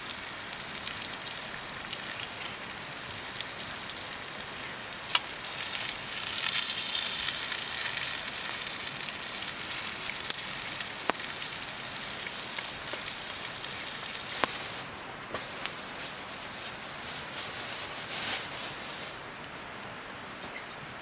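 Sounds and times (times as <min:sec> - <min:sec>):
food sizzling in a pan: 0:00.1 - 0:19.2.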